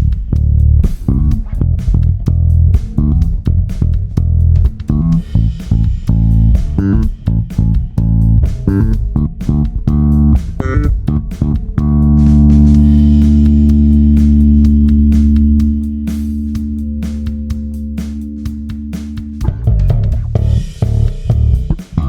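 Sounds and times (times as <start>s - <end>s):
electric bass plucked notes: 0.0s - 22.0s.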